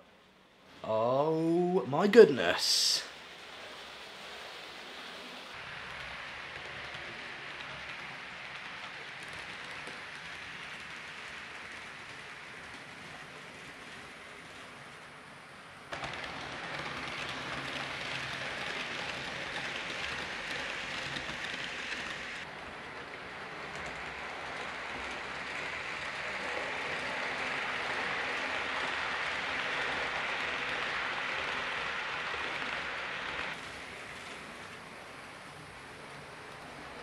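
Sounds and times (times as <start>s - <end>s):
model train whirring on track: 3.1s - 37.0s.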